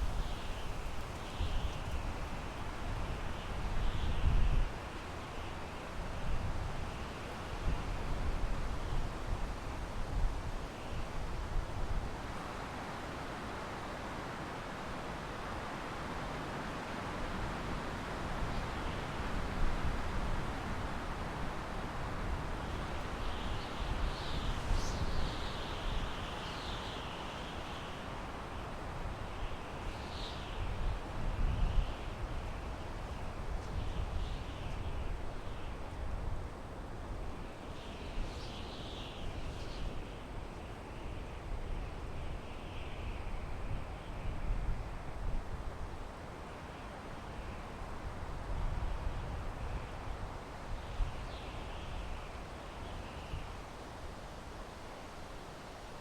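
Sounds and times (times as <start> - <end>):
wind blowing through pine trees: 0.0 - 56.0.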